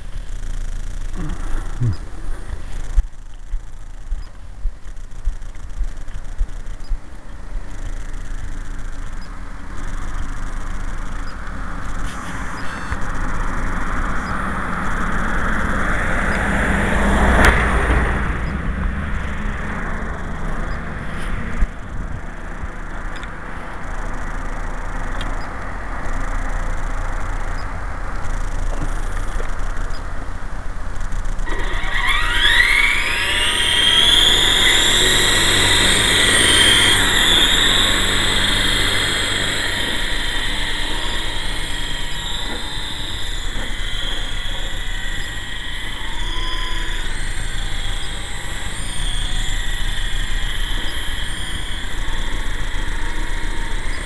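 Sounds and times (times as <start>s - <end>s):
outdoor background noise: 0.0s - 54.0s
rc helicopter motor whine: 0.0s - 54.0s.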